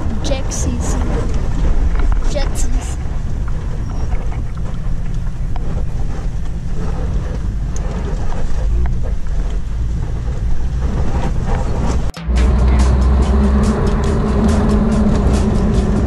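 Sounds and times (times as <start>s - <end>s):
vehicle engine rumble: 0.0s - 16.0s
wind buffeting microphone: 0.0s - 16.0s.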